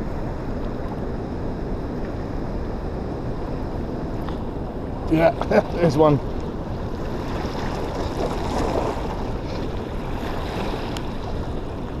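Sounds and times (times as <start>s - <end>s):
water running at a dam: 0.0s - 12.0s
wind buffeting microphone: 0.0s - 12.0s.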